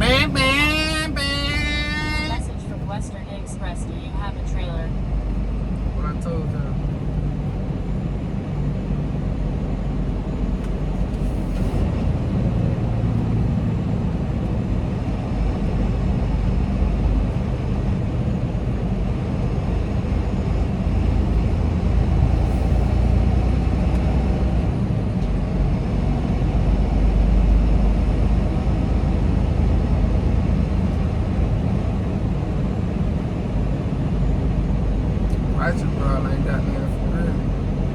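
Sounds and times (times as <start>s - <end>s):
road noise: 0.0s - 37.9s
truck diesel engine: 0.0s - 37.9s.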